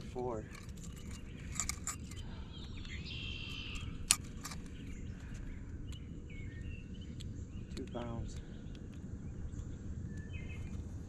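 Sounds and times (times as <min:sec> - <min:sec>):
songbird chirping and warbling: 0:00.0 - 0:11.0
steady low rumble: 0:00.0 - 0:11.0.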